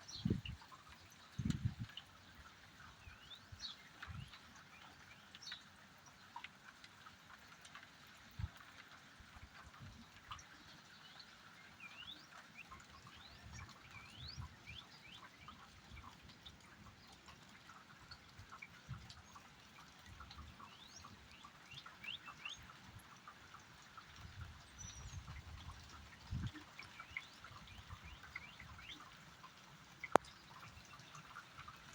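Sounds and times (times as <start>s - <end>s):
faint rain: 0.0s - 31.9s
water dripping: 0.0s - 31.9s.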